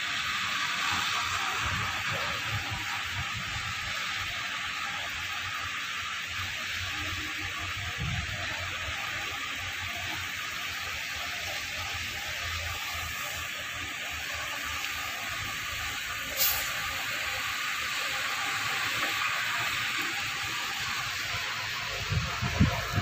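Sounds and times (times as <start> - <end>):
rain falling: 0.2 - 23.0.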